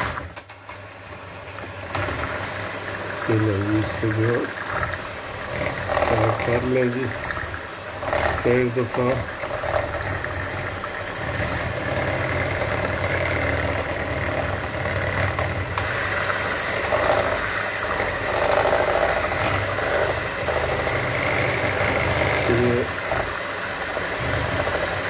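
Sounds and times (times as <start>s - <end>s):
electric hand mixer humming: 0.0s - 25.0s
whisk beaters churning batter: 1.8s - 25.0s.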